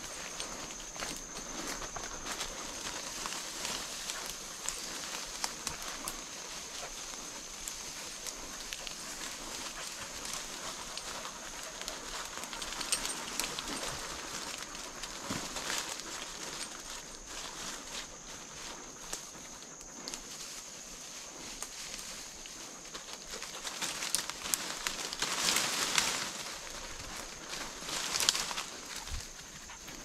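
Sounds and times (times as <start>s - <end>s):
footsteps crunching through leaves: 0.0s - 19.1s, 20.4s - 30.0s
dogs rustling in undergrowth: 0.0s - 30.0s.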